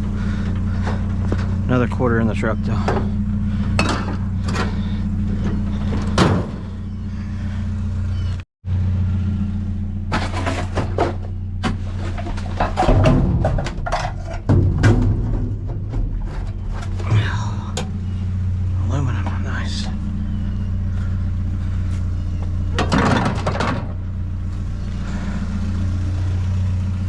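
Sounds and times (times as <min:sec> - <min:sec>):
engine clicks and knocks: 0:00.0 - 0:08.4, 0:10.1 - 0:27.0
truck engine idling: 0:00.0 - 0:27.0.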